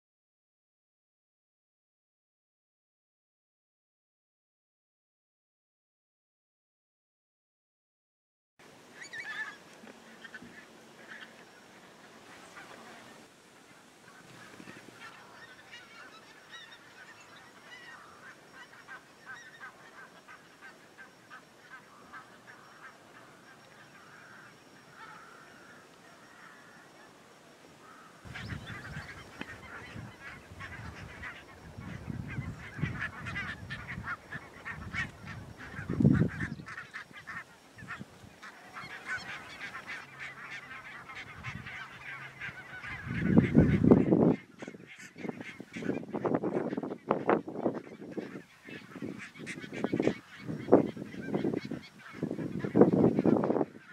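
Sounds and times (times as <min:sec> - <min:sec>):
geese honking in flight: 0:09.0 - 0:27.2, 0:27.8 - 0:53.9.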